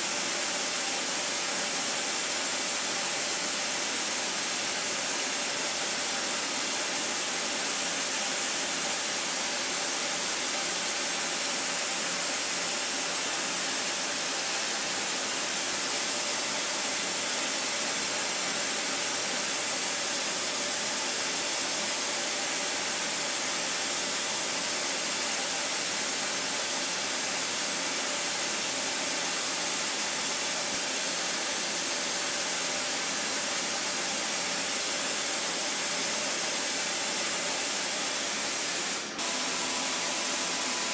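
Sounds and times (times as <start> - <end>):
milling machine cutting metal hiss: 0.0 - 40.9.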